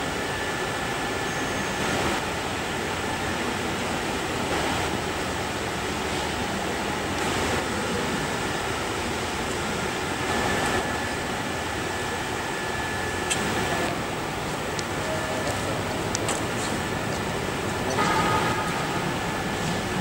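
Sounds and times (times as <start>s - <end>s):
rushing hall noise: 0.0s - 20.0s.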